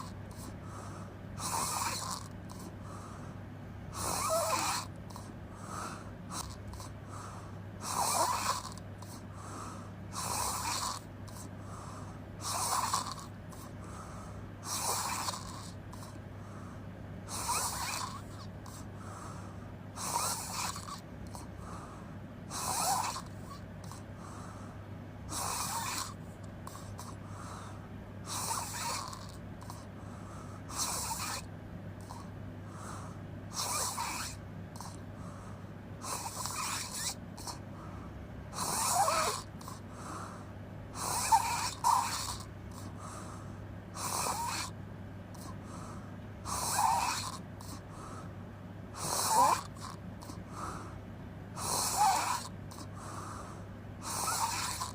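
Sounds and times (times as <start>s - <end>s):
person snoring: 0.0s - 3.2s, 3.9s - 16.2s, 17.3s - 24.6s, 25.3s - 29.9s, 30.7s - 37.6s, 38.5s - 44.8s, 45.4s - 48.3s, 48.9s - 51.0s, 51.6s - 54.9s.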